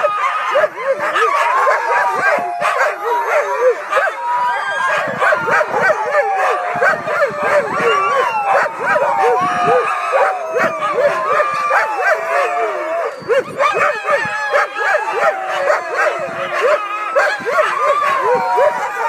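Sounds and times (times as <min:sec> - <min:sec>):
sled dogs barking and howling: 0:00.0 - 0:19.0.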